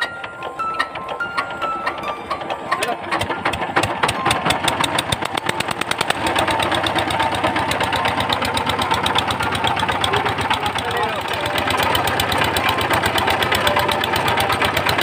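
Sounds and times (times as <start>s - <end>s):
diesel engine starting and running: 0.0s - 15.0s.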